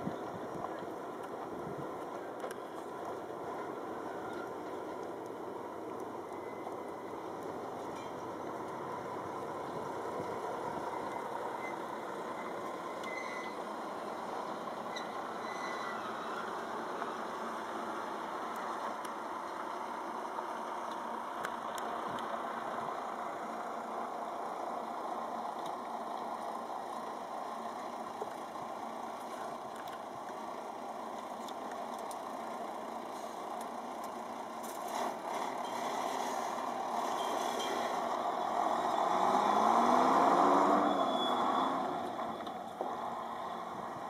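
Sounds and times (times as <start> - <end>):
vehicle engine humming: 0.0 - 44.0.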